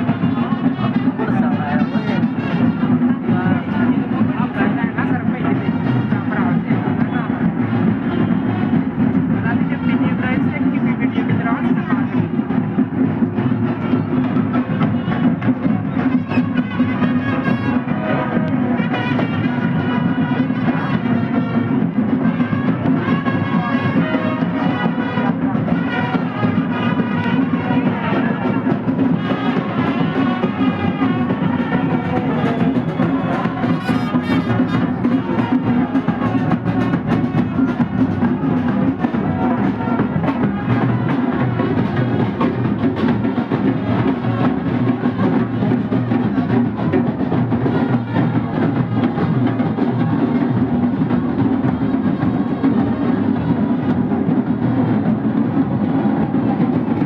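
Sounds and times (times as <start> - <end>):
wind instrument melody: 0.0 - 54.9
drums beaten fast: 0.0 - 57.0.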